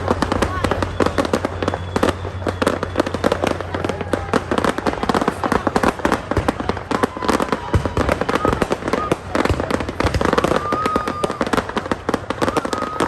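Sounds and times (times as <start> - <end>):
fireworks popping and crackling: 0.0 - 13.0.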